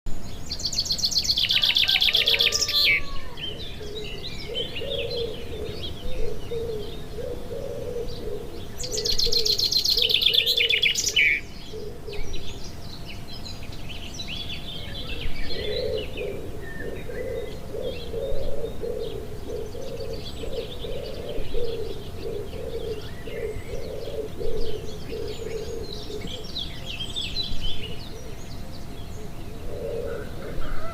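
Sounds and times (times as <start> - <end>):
birds chirping: 0.1 - 30.9
loud buzzy bird trills: 0.4 - 30.9
low bird call: 1.3 - 13.2, 14.5 - 30.9.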